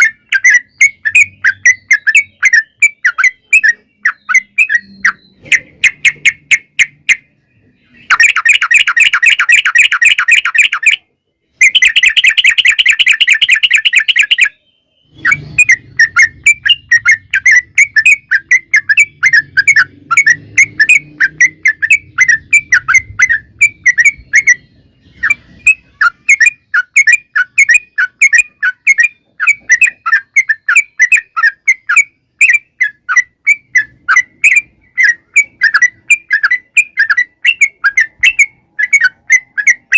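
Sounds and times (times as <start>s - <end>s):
bird chattering trills: 0.0s - 39.9s
bird quick repeated chirps: 0.0s - 39.9s.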